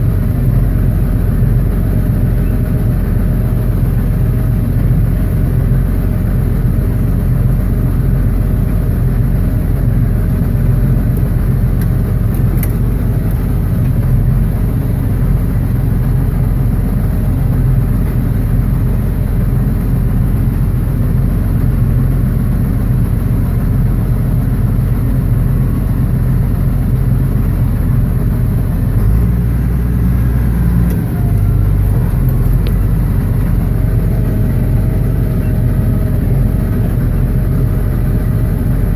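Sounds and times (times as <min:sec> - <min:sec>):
baler engine drone: 0:00.0 - 0:38.9
deep rumble: 0:00.0 - 0:38.9.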